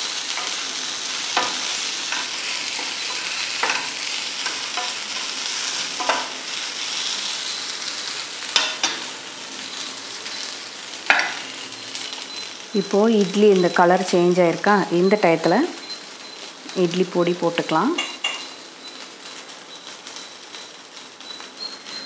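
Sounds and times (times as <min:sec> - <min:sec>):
food sizzling in oil in a pan: 0:00.0 - 0:22.0.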